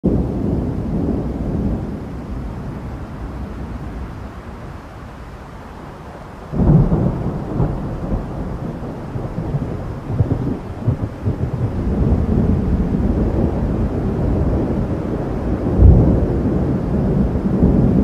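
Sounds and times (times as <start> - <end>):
thunder rumbling and cracking: 0.0 - 4.8, 6.3 - 18.0.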